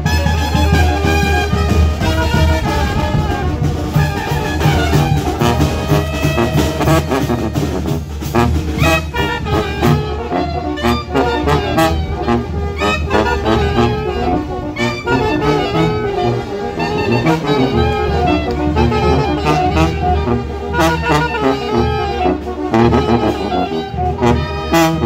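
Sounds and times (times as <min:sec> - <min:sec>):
snare and bass drum strokes: 0:00.0 - 0:21.2
brass band playing: 0:00.0 - 0:25.0.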